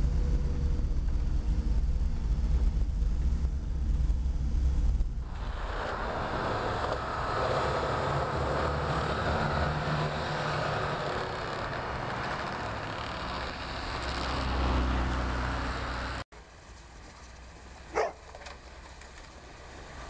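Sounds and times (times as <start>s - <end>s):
small truck engine running hard: 0.0s - 16.2s
steady rushing noise: 0.0s - 16.2s.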